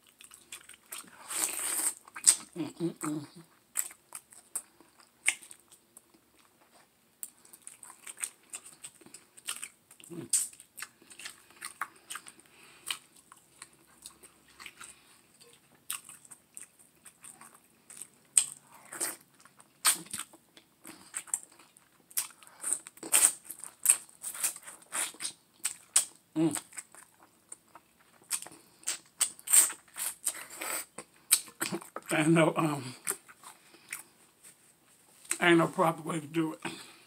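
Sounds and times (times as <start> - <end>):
chewing and biting: 0.0 - 2.5, 3.7 - 32.1.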